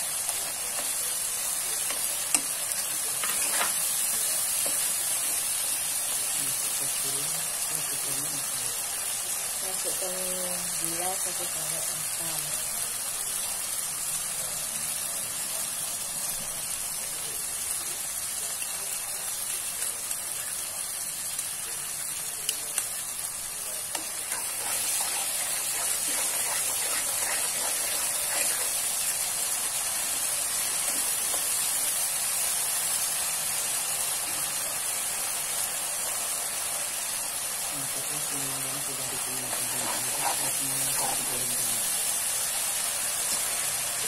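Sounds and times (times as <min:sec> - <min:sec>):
frying in a wok: 0:00.0 - 0:44.0.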